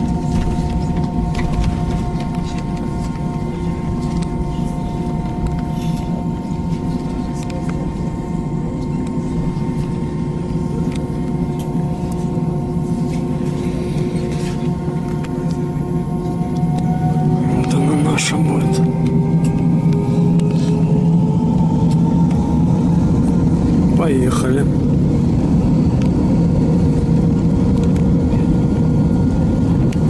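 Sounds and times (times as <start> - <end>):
engine whining tones: 0.0 - 30.0
jet engines rumbling: 0.0 - 30.0.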